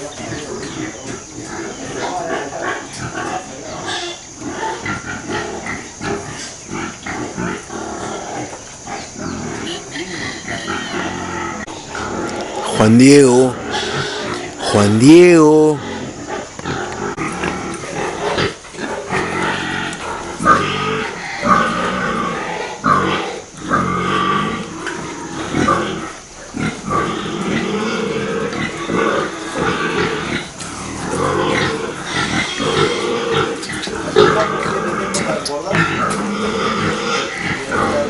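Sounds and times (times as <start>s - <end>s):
pigs grunting: 0.0s - 38.0s.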